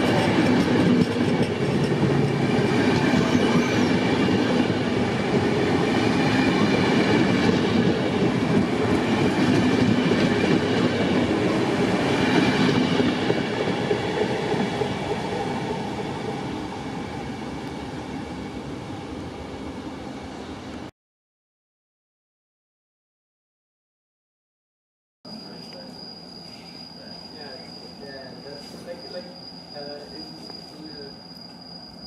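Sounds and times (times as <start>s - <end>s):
train rolling rumble: 0.0s - 20.9s, 25.3s - 32.0s.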